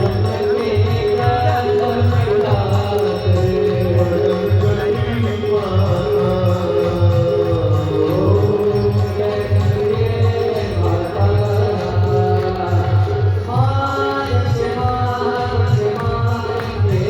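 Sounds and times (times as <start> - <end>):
devotional chant-like singing: 0.0 - 17.0.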